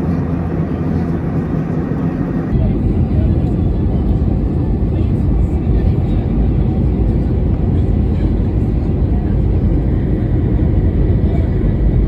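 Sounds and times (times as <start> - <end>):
airliner cabin engine noise: 0.0 - 12.0.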